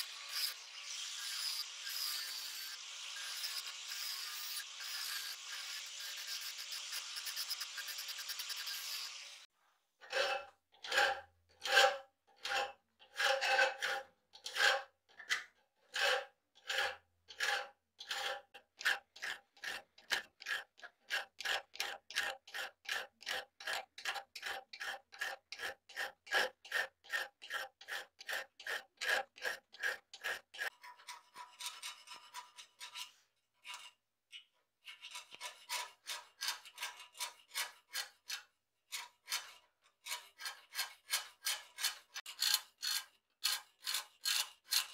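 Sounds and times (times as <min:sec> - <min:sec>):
hand file rasping on steel: 0:00.0 - 0:09.2, 0:10.1 - 0:14.9, 0:15.9 - 0:34.0, 0:34.8 - 0:44.9.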